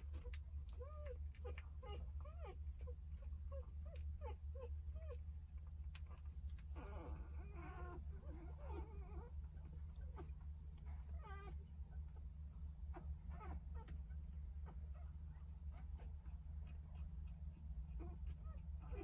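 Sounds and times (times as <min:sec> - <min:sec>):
puppies squeaking and whimpering: 0:00.1 - 0:05.2, 0:06.0 - 0:12.2, 0:12.9 - 0:19.0.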